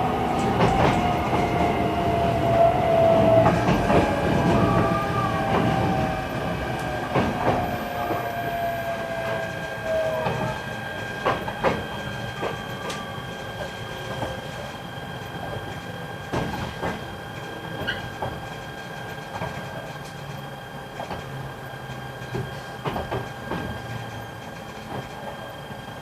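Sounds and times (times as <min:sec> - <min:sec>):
electric train inverter whine: 0:00.0 - 0:26.0
train running noise: 0:00.0 - 0:26.0
rail-joint clicks: 0:00.3 - 0:01.7, 0:03.4 - 0:04.8, 0:06.7 - 0:25.7.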